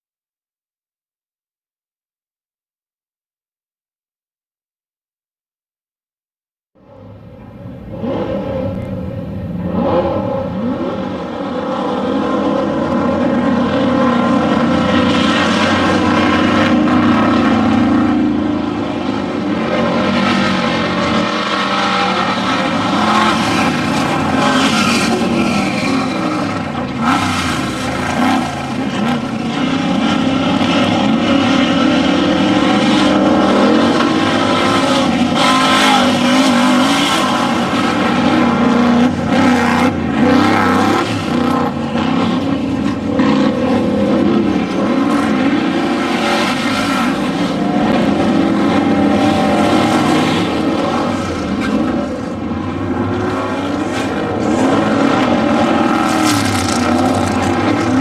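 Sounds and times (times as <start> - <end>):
vehicle engines droning: 6.8 - 58.0.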